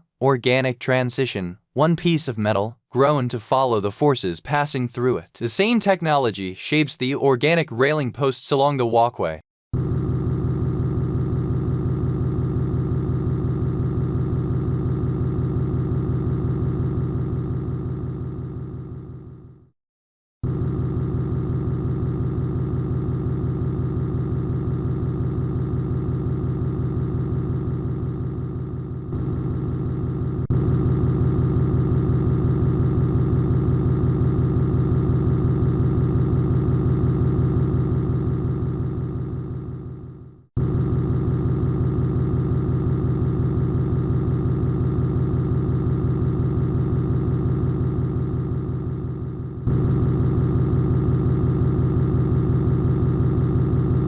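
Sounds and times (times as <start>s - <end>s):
pulsing machinery hum: 9.8s - 19.7s, 20.4s - 54.0s.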